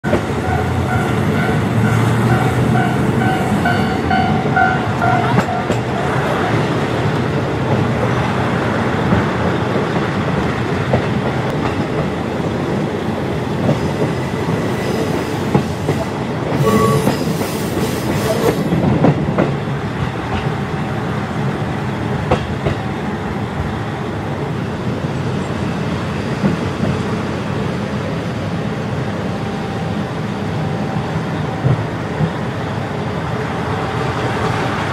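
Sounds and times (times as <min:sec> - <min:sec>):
train wheels on rails: 0:00.0 - 0:34.9.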